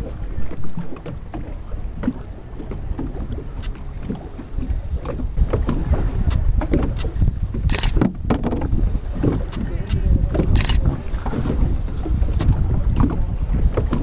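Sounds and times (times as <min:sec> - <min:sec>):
water splashing against hull: 0:00.0 - 0:14.0
wind buffeting microphone: 0:00.0 - 0:14.0.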